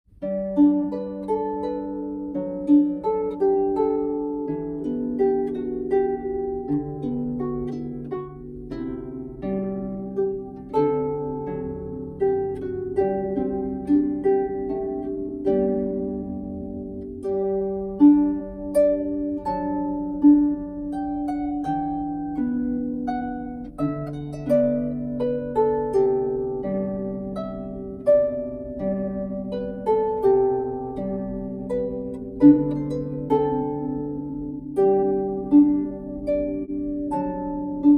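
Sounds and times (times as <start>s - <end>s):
harp being plucked: 0.1s - 37.9s.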